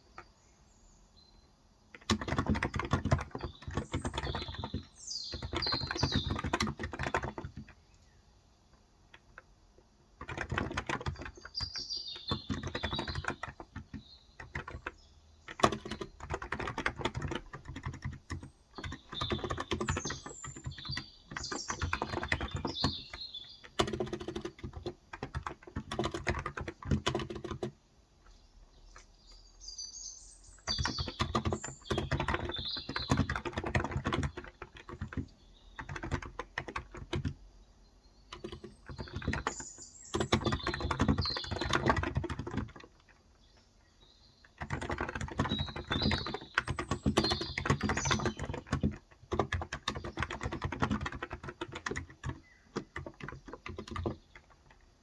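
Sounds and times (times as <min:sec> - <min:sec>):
faint birds chirping: 0:00.0 - 0:55.0
keyboard typing: 0:01.9 - 0:07.9, 0:10.1 - 0:27.8, 0:30.6 - 0:37.5, 0:38.2 - 0:43.3, 0:44.4 - 0:55.0.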